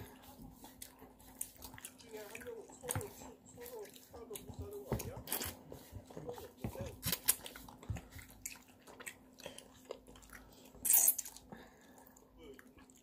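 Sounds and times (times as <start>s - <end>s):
child chewing and slurping: 0.0s - 13.0s.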